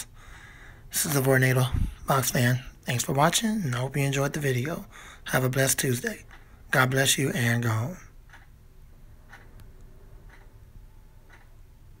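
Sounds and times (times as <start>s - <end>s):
fan humming: 0.0s - 12.0s
soft ticking: 0.0s - 12.0s.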